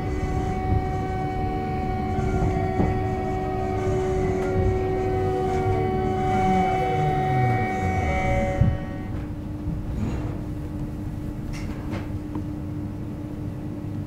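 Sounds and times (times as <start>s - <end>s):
train motor whine: 0.0s - 12.6s
metro train rumble: 0.0s - 14.0s.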